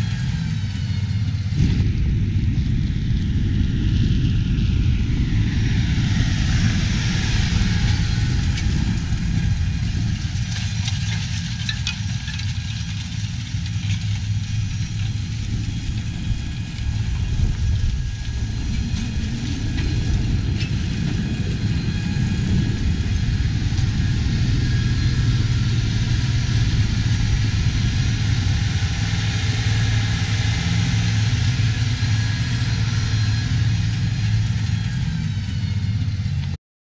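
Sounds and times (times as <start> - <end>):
drone propellers humming: 0.0 - 36.6
high motor whine: 0.0 - 36.6.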